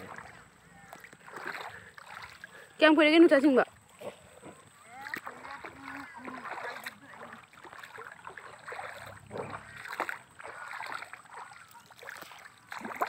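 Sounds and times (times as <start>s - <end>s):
water sloshing from wading: 0.0s - 13.0s.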